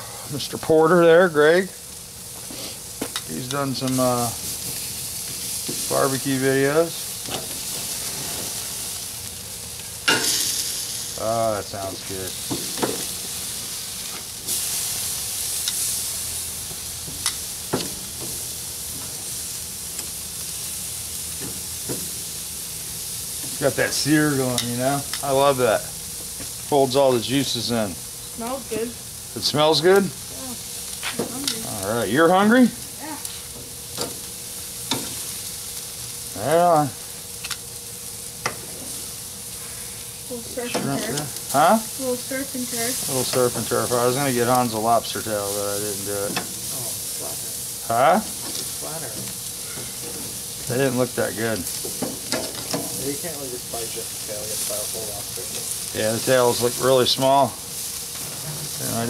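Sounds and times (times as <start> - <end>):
meat sizzling on a grill: 0.0 - 59.0.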